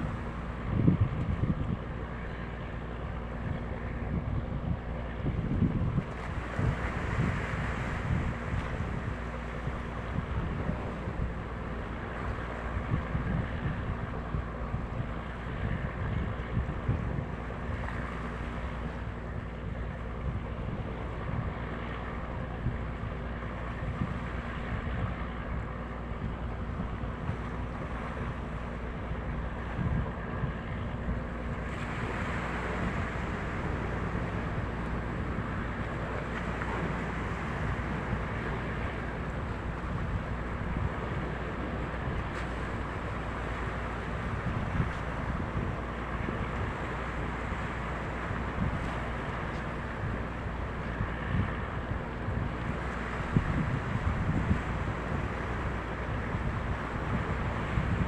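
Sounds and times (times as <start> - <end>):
boat engine rumbling: 0.0 - 58.0
water noise: 0.0 - 58.0
wind buffeting microphone: 0.0 - 58.0.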